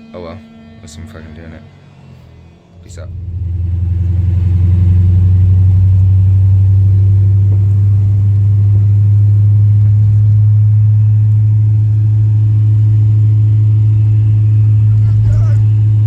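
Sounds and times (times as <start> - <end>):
car engine and road drone: 0.5 - 16.0.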